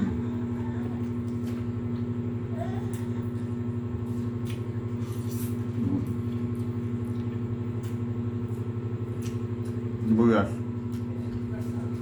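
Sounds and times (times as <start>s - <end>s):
fluttering mechanical hum: 0.0s - 12.0s.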